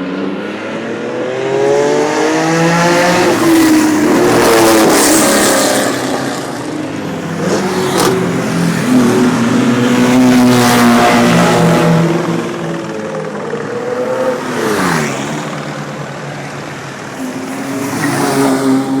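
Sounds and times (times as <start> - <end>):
sports car engines revving: 0.0 - 19.0.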